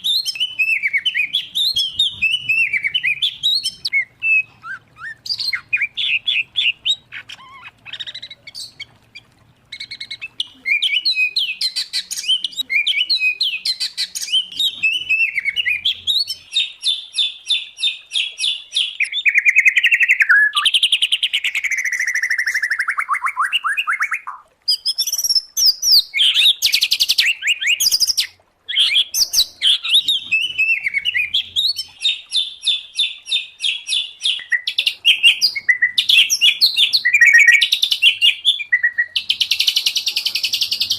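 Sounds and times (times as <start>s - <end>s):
songbirds singing trills and whistles: 0.0s - 40.9s.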